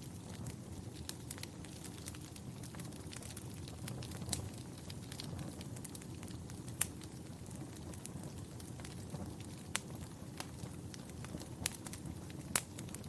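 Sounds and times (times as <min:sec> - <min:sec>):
fireplace fire crackling: 0:00.0 - 0:13.0
sharp pops of fire: 0:00.0 - 0:13.0.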